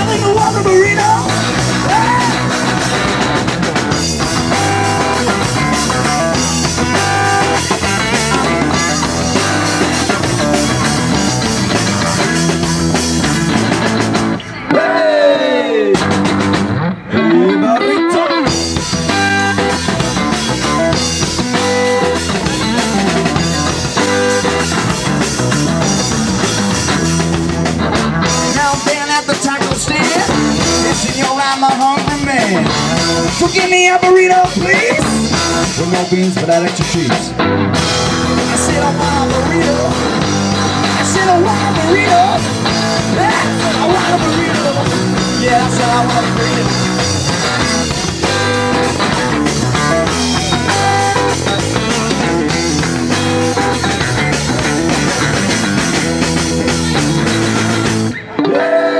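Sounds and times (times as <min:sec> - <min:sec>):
drum kit: 0:00.0 - 0:15.0, 0:15.7 - 0:17.1, 0:18.4 - 0:58.4
electric bass: 0:00.0 - 0:58.6
electric guitar: 0:00.0 - 0:58.9.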